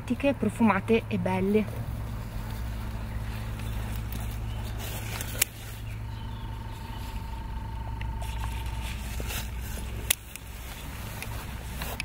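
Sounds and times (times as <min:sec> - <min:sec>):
low outdoor hum: 0:00.0 - 0:12.0.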